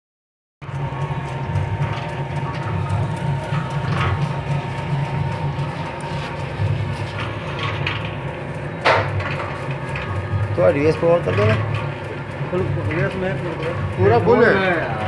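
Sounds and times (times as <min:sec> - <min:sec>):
dough mixer motor hum: 0:00.6 - 0:15.0
thin steady whine: 0:00.6 - 0:15.0.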